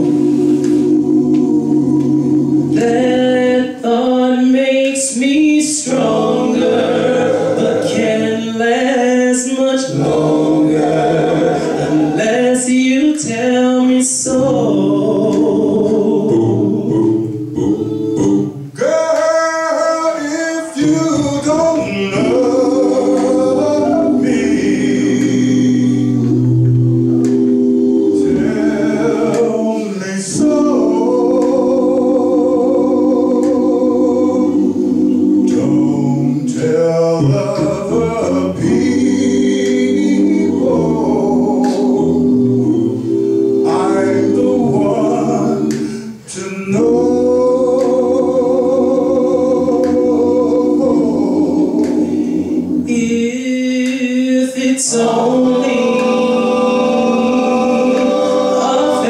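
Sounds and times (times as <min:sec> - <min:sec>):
male vocal group singing harmony: 0:00.0 - 0:59.0.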